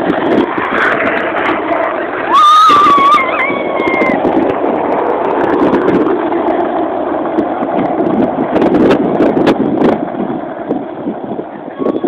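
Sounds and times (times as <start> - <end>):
skateboard wheels rolling on asphalt: 0.0 - 11.5.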